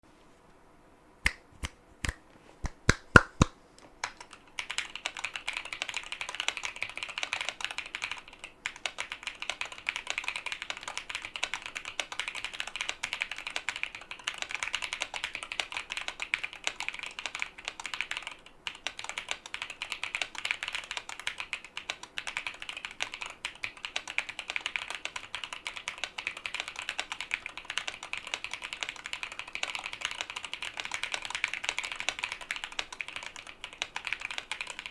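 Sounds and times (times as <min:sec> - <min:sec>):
mechanical keyboard typing: 0:03.1 - 0:34.9.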